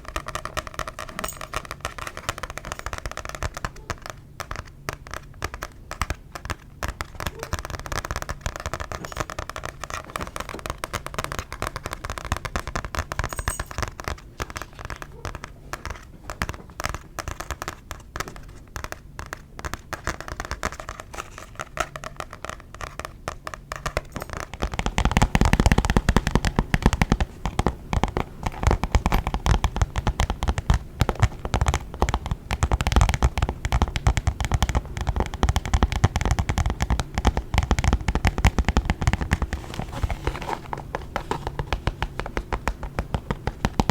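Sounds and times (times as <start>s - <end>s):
deep tapping on a makeup bag: 0.0s - 43.9s
fast tapping on a book: 0.0s - 43.9s.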